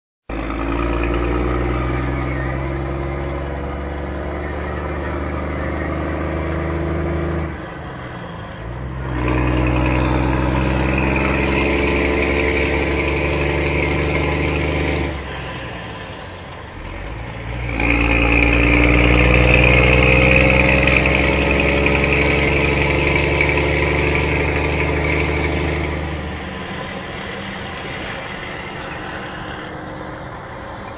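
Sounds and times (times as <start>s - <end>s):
truck engine idling: 0.3s - 30.9s
truck engine revving: 0.3s - 30.9s.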